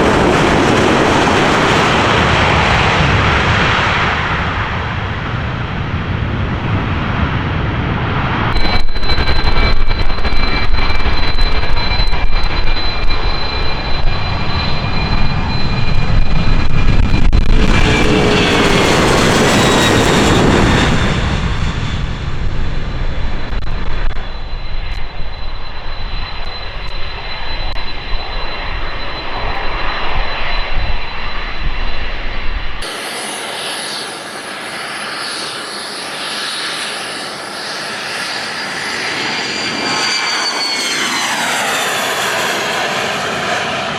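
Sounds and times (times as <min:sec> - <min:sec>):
jet airliner engines roaring: 0:00.0 - 0:43.9
thin jet whine: 0:00.0 - 0:43.9.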